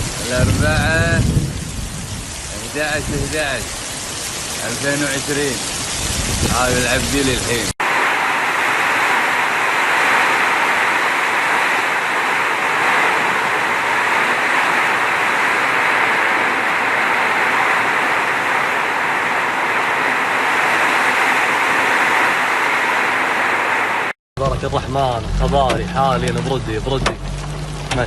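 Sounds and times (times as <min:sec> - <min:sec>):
rush of flowing water: 0:00.0 - 0:24.2.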